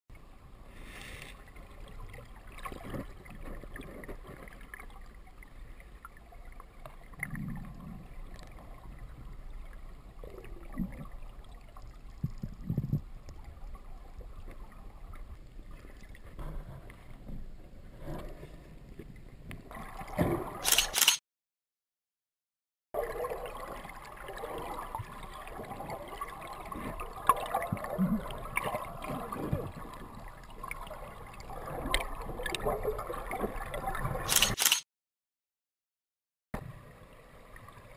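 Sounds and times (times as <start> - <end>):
underwater river rushing: 0.1 - 20.6, 23.0 - 34.3
water gurgles: 0.1 - 20.9, 23.0 - 34.6.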